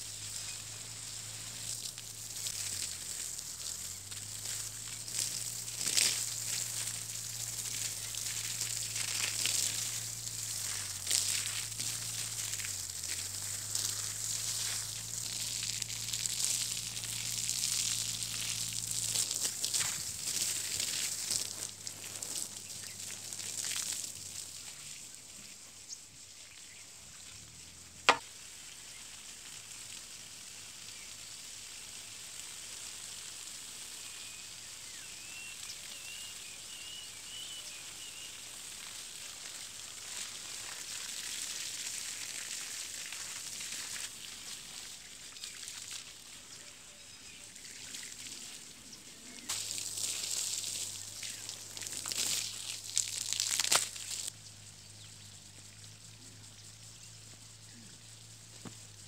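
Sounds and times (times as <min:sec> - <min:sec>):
hose spraying water onto soil: 0:00.0 - 0:59.0.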